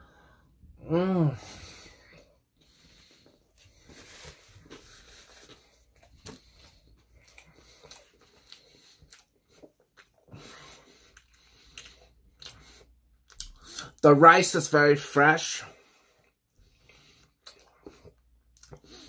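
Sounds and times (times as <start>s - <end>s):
person chewing food: 1.7s - 13.9s, 15.8s - 19.0s.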